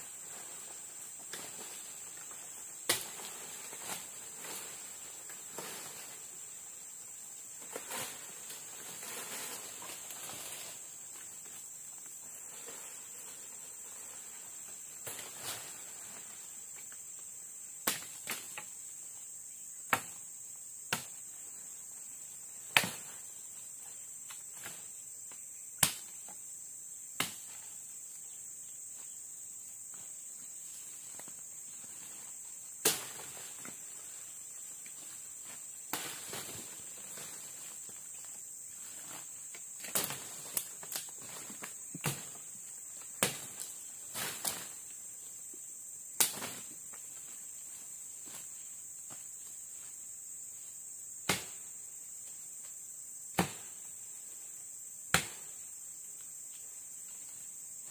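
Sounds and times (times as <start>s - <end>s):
crickets and insects chirping: 0.0s - 57.9s.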